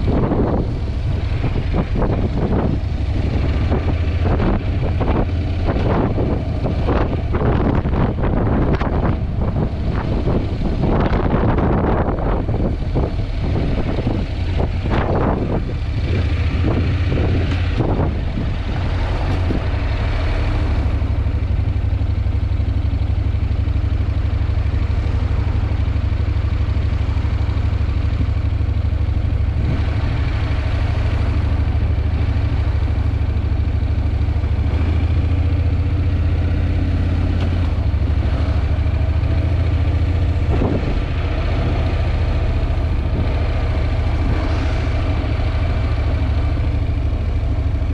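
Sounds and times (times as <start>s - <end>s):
wind buffeting microphone: 0.0s - 22.0s, 23.8s - 47.9s
motorcycle engine running: 0.0s - 47.9s.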